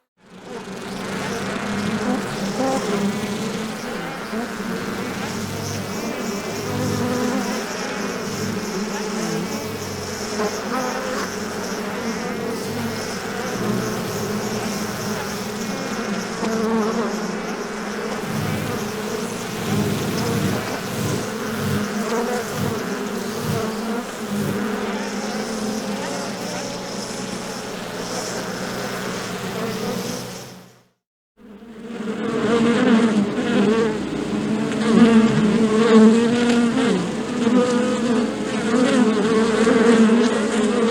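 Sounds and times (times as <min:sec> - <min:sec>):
bees buzzing: 0:00.3 - 0:30.8, 0:31.5 - 0:40.9.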